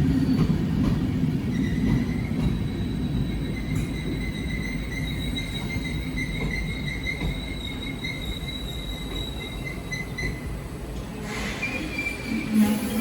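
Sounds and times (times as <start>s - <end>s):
train low rumble: 0.0s - 13.0s
train wheels squealing: 0.0s - 13.0s.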